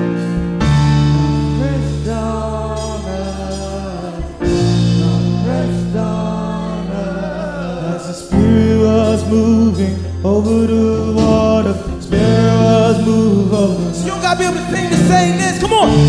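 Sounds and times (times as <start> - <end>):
worship band playing slow song: 0.0 - 16.0
person singing: 1.4 - 16.0.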